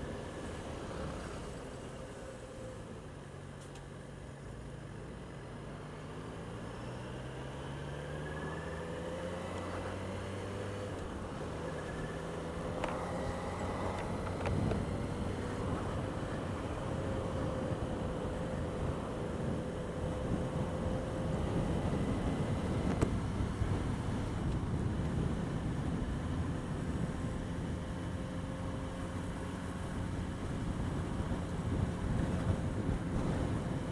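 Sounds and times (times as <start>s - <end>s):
wind and road noise: 0.0s - 33.9s.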